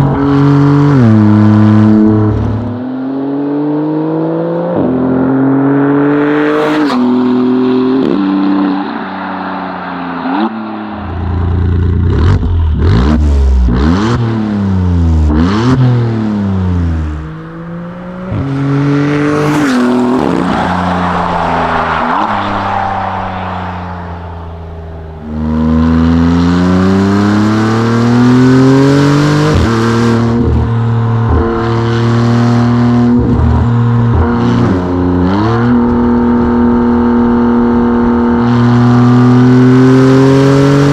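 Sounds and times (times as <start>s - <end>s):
sports car engine accelerating: 0.0s - 40.9s.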